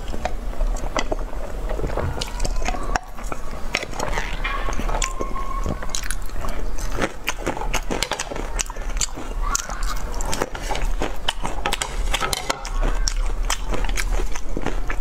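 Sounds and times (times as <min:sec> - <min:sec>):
close-miked wet chewing: 0:00.0 - 0:15.0.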